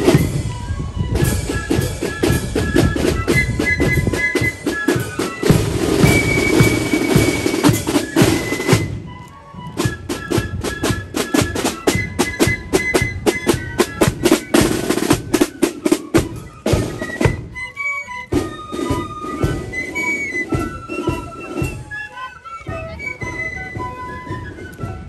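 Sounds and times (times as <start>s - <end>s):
side drums beating: 0.0s - 9.1s, 9.8s - 25.0s
flute melody: 0.0s - 25.0s.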